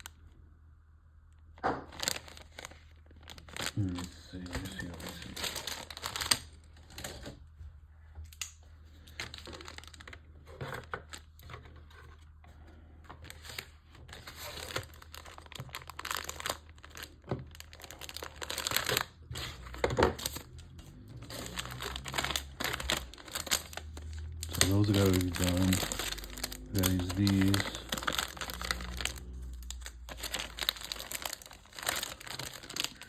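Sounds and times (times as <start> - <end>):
plastic packaging crinkling: 1.7 - 7.4, 8.9 - 12.4, 13.1 - 33.0.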